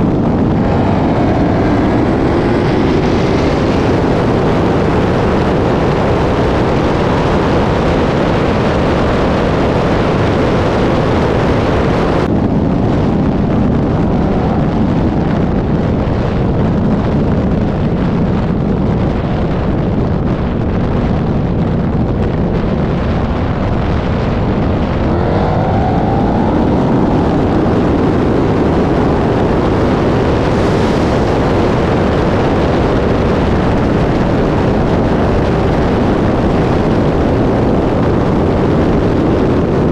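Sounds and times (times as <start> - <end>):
car engines at full throttle: 0.0 - 39.9.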